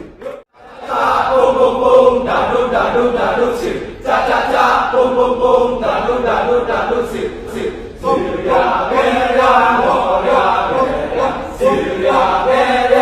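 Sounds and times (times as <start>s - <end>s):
male chorus chanting: 0.0s - 13.0s.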